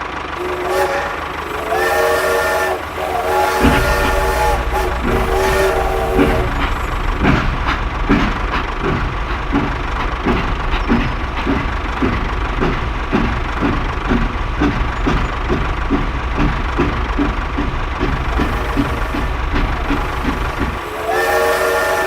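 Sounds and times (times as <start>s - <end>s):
heavy engine chugging: 0.0s - 22.0s.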